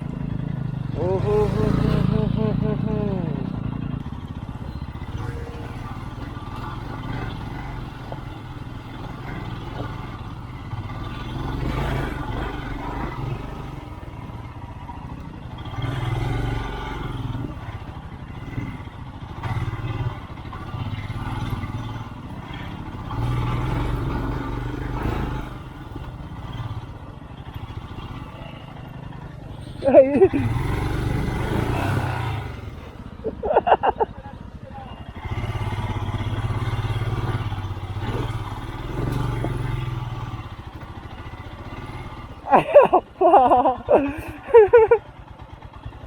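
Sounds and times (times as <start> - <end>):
motorcycle engine revving: 0.0 - 46.0
motorcycle clattering and scraping: 3.4 - 46.0.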